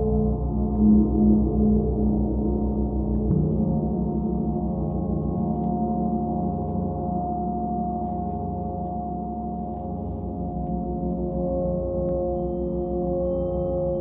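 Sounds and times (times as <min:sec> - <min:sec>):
gong played with soft mallets: 0:00.0 - 0:14.0.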